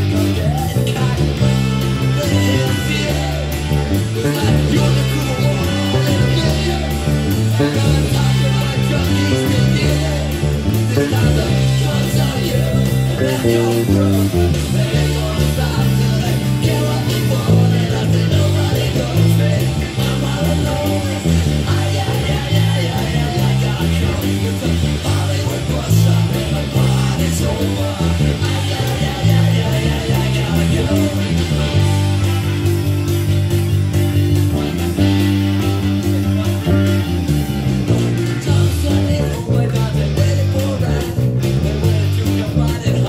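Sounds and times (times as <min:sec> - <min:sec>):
electric bass line: 0:00.0 - 0:43.0
punk rock music: 0:00.0 - 0:43.0.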